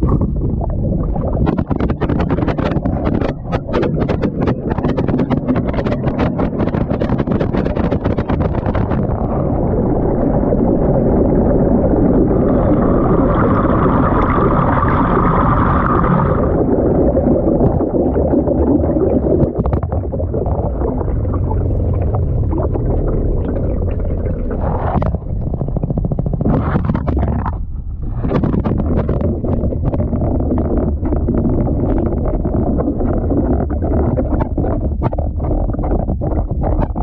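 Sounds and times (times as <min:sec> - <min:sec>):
bright gurgling: 0:00.0 - 0:37.0.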